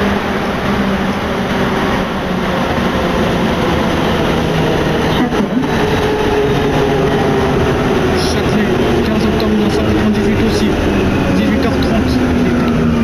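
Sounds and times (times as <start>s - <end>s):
train rolling rumble: 0.0s - 13.0s.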